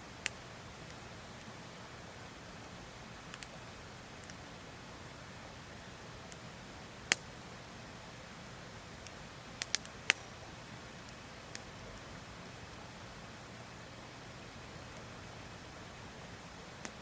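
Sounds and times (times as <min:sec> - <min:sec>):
faint steady hiss: 0:00.0 - 0:17.0
wood fire crackling: 0:00.1 - 0:17.0.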